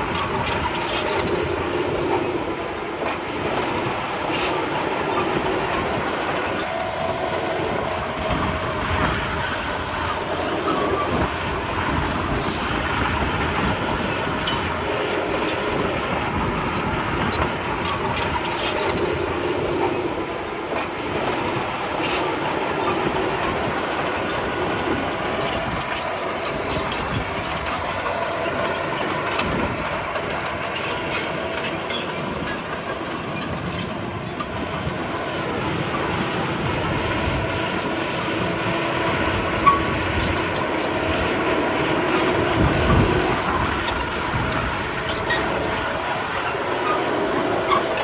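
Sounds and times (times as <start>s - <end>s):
diesel engine under load: 0.0s - 48.0s
metallic clanks of steel tracks: 0.0s - 48.0s.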